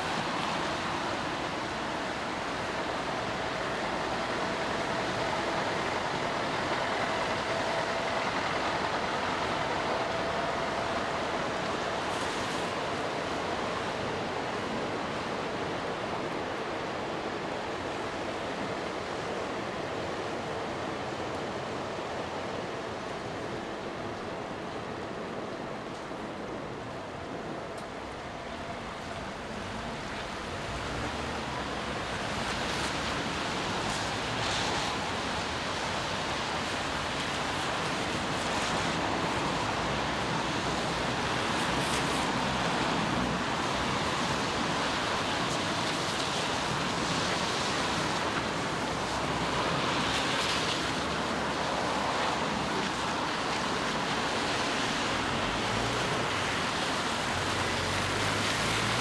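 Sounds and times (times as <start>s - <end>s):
rain on a street: 0.0s - 59.0s
tyres swishing on wet road: 0.0s - 59.0s.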